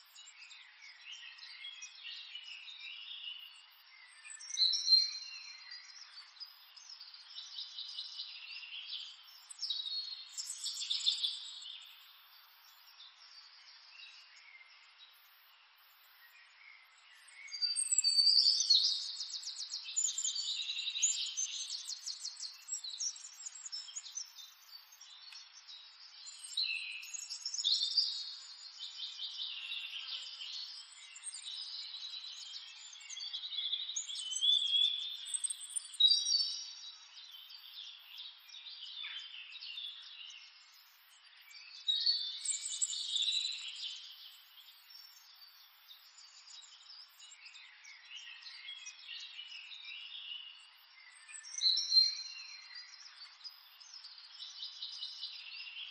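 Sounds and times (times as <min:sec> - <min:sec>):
small birds chirping and trilling: 0:00.0 - 0:55.9.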